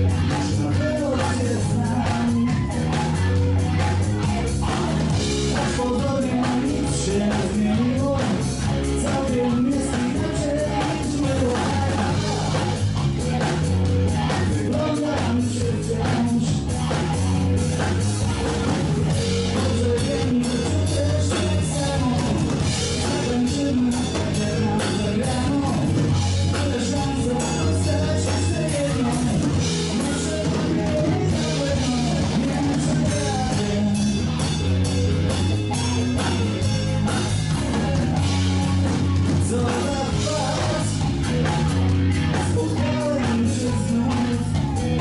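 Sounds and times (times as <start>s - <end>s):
blues-rock band playing: 0.0s - 45.0s
person singing: 0.0s - 45.0s.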